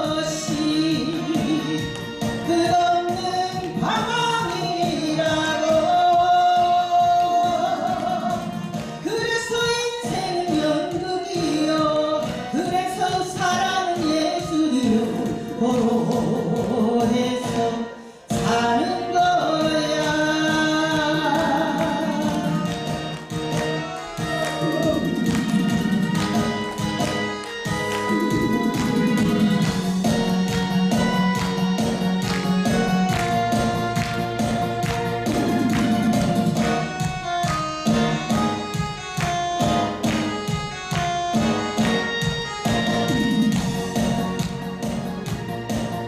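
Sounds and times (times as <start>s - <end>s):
trot music with melodic lead: 0.0s - 46.0s.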